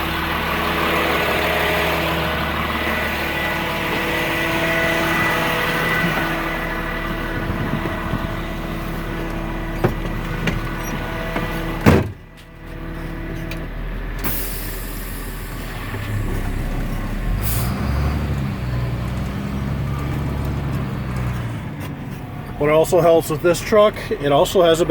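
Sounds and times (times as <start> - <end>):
diesel truck engine running: 0.0 - 24.9.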